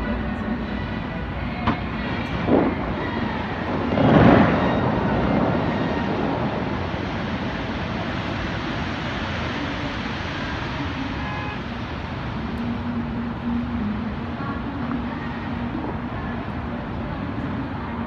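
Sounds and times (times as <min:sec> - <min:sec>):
fountain water jets rushing: 0:00.0 - 0:18.0.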